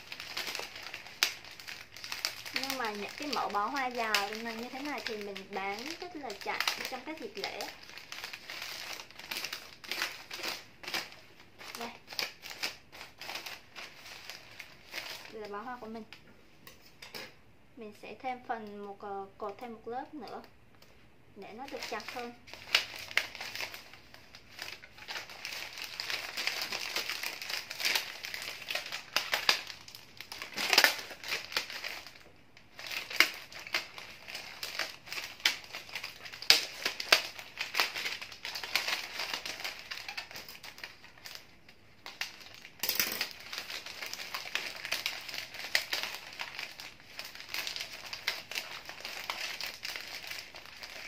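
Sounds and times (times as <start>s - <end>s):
wrapping paper crinkling: 0.0s - 16.1s, 21.4s - 51.0s.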